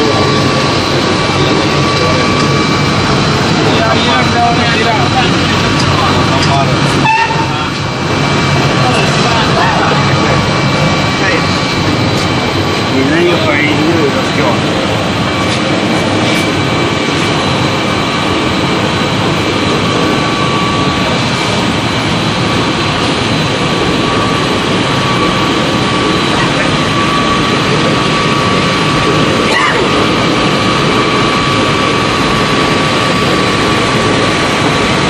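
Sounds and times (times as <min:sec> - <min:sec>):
high machine whines: 0:00.0 - 0:35.0
machinery drone: 0:00.0 - 0:35.0.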